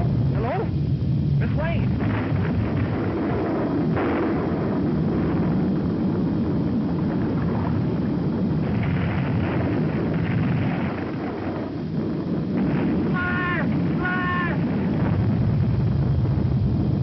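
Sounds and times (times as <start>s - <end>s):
volcanic eruption rumble: 0.0s - 17.0s.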